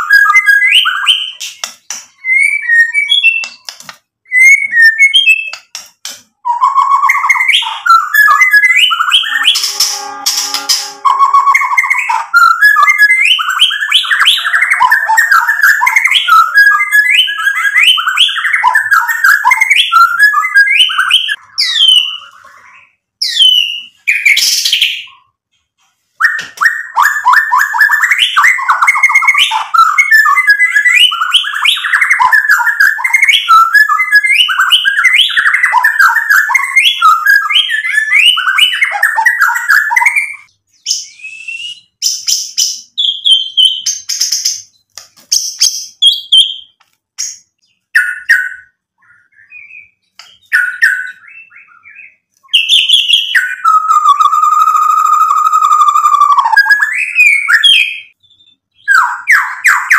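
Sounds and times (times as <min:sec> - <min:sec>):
bird singing whistled phrases: 0:00.0 - 0:05.7, 0:06.4 - 0:25.3, 0:26.2 - 0:46.8, 0:47.7 - 0:59.9.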